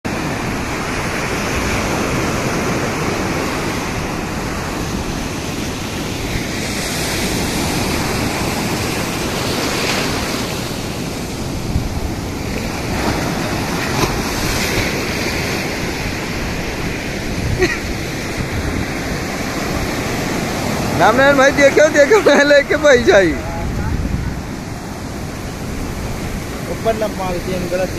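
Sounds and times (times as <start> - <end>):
waves breaking on a beach: 0.1 - 27.9
wind buffeting microphone: 0.1 - 27.9.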